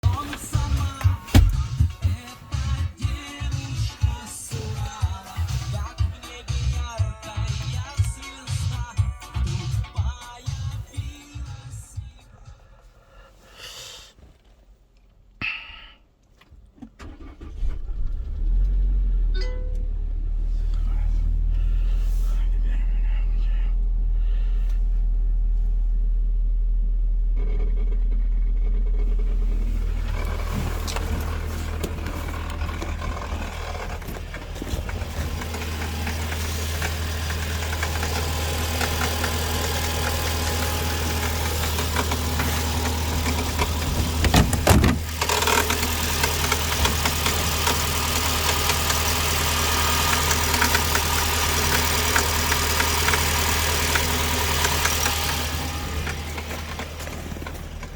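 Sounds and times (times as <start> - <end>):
car engine idling: 0.0 - 13.4, 17.0 - 57.9.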